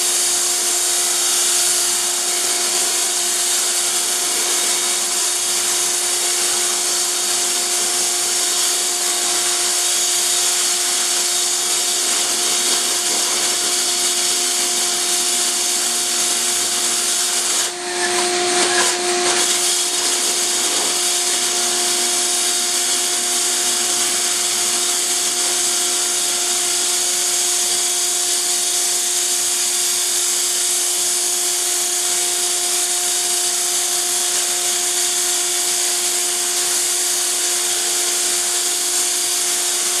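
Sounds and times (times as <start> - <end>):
core drill boring through concrete: 0.0 - 40.0.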